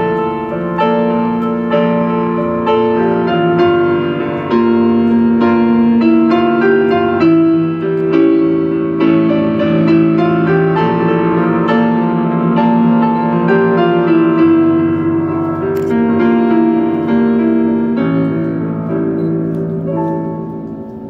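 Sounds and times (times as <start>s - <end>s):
digital piano accompaniment: 0.0s - 21.0s.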